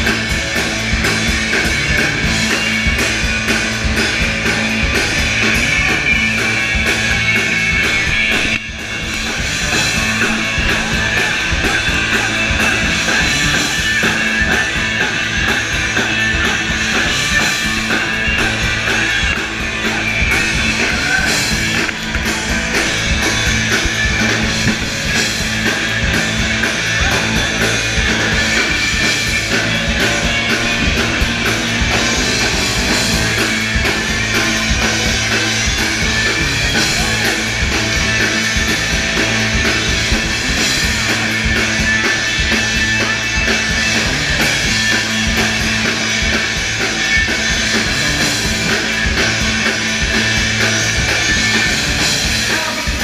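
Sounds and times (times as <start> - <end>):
drum kit beat: 0.0 - 53.0
electric guitars: 0.0 - 53.0.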